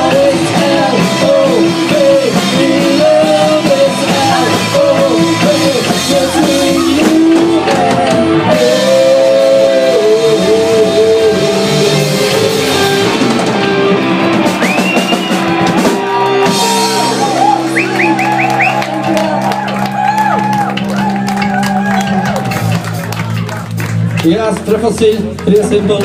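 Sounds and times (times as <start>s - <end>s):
lead guitar melody: 0.0s - 23.8s
live rock band playing: 0.0s - 26.0s.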